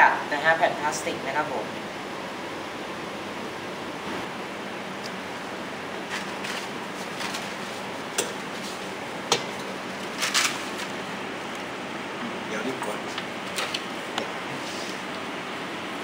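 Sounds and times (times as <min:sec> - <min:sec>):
room noise hiss: 0:00.0 - 0:16.0.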